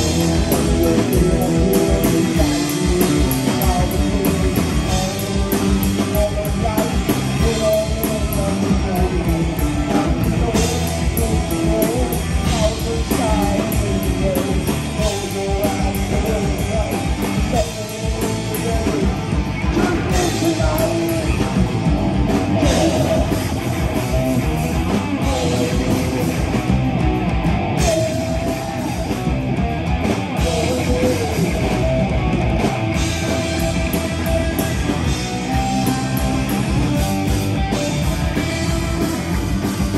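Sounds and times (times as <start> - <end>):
bass guitar: 0.0 - 39.9
distorted electric guitars: 0.0 - 39.9
drum kit: 0.0 - 39.9
wavering lead guitar: 0.0 - 39.9.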